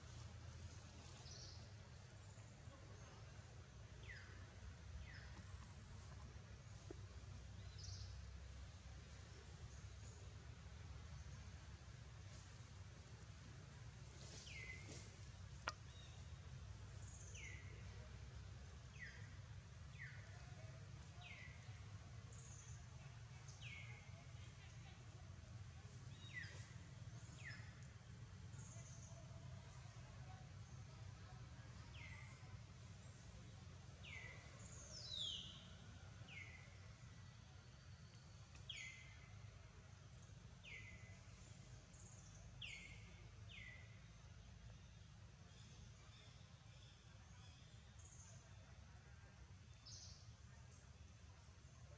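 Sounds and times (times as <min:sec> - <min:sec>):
low outdoor rumble: 0:00.0 - 0:51.9
low steady hum: 0:00.0 - 0:51.9.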